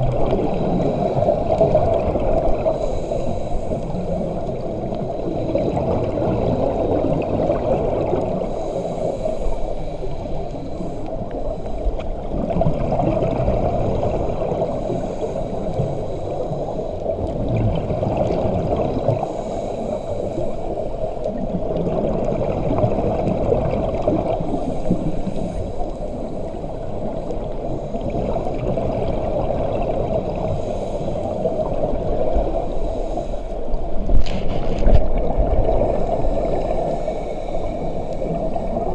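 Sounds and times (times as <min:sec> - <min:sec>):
muffled underwater rush: 0:00.0 - 0:38.9
regulator bubbles gurgling: 0:00.0 - 0:38.9.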